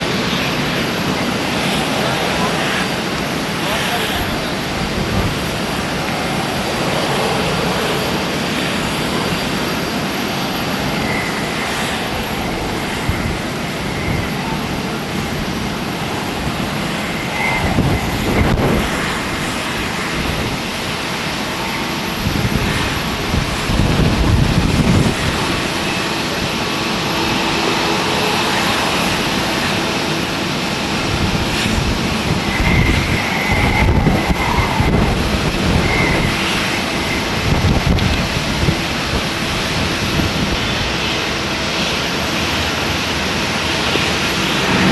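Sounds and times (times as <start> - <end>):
jet engines at takeoff thrust: 0.0 - 44.9.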